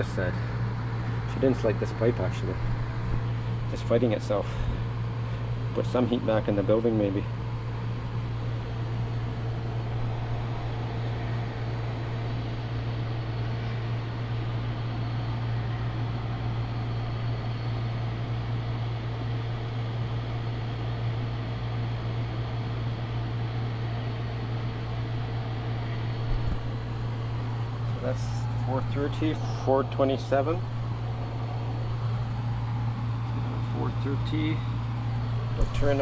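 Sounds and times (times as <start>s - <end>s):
air conditioner running: 0.0s - 36.0s.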